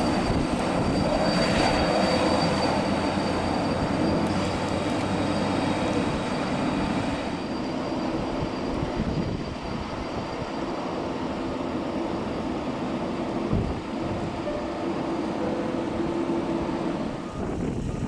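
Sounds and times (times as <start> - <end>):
engine rushing with high whine: 0.0 - 18.0.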